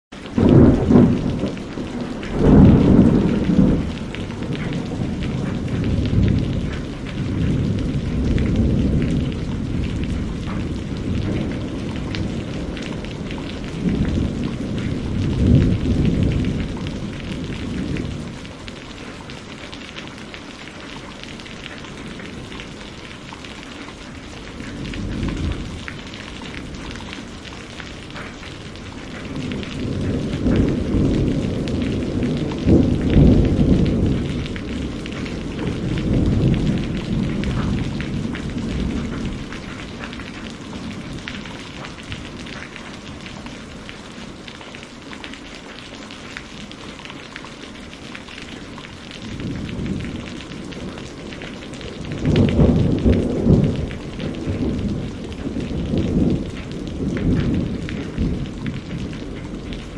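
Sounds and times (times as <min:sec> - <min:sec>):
rain falling: 0:00.1 - 0:59.9
rolling thunder: 0:00.3 - 0:23.6, 0:24.2 - 0:44.2, 0:48.5 - 0:59.9.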